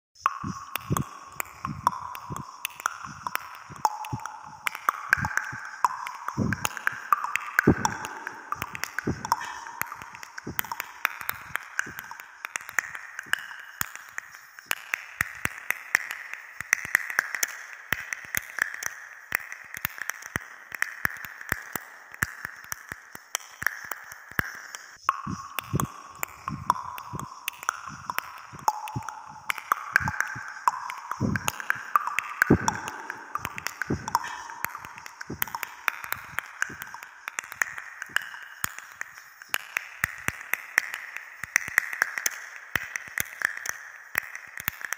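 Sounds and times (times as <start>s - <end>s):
short irregular clicks and taps: 0.2s - 44.9s.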